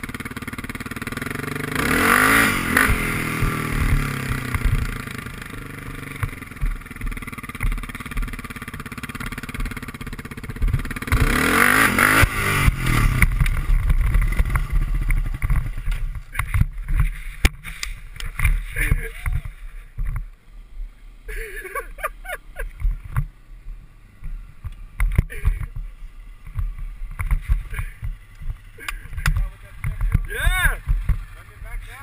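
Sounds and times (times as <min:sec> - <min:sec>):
quad engine revving: 0:00.0 - 0:19.8, 0:24.0 - 0:32.0.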